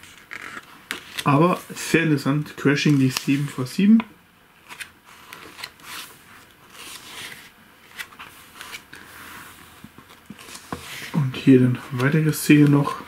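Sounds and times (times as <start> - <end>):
booklet pages turning: 0.0 - 1.8, 2.8 - 4.0, 4.6 - 13.0.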